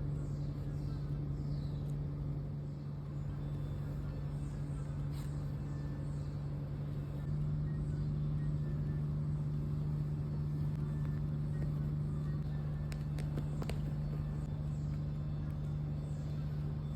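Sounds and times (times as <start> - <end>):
steady low droning hum: 0.0 - 16.9.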